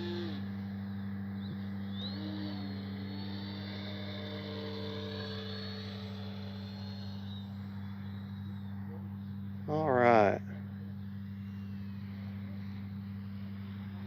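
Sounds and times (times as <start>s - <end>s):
model plane motor whining: 0.0s - 14.0s
steady low hum: 0.0s - 14.0s.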